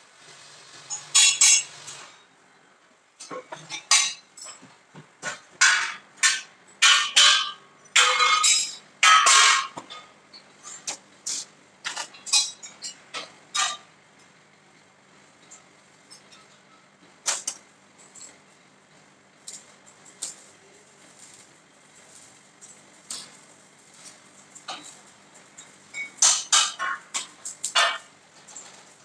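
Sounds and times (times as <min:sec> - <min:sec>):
metal parts clanging and banging: 0:00.9 - 0:02.2, 0:03.2 - 0:13.9, 0:15.4 - 0:18.6, 0:19.4 - 0:29.0.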